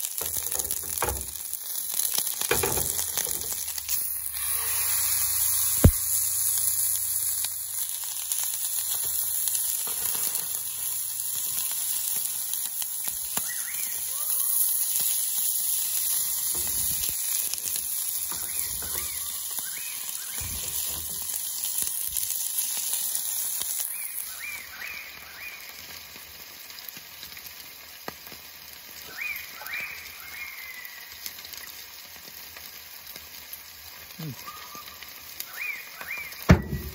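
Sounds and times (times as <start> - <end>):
steak sizzling in frying pan: 0.0 - 36.9.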